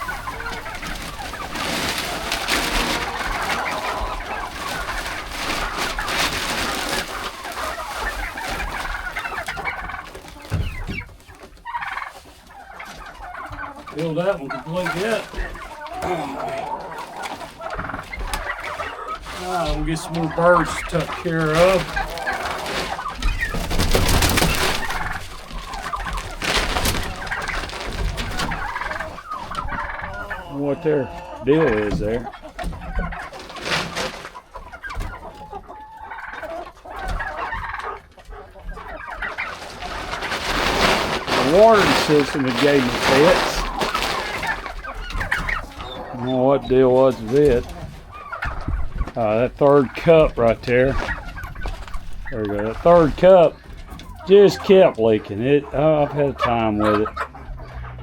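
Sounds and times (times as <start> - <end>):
chickens and turkeys clucking: 0.0 - 58.0.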